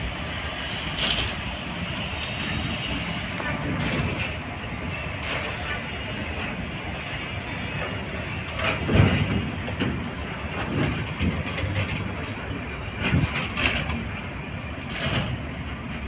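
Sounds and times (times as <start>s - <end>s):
train clunk: 0.0s - 16.0s
train wheels rumbling on rails: 0.0s - 16.0s.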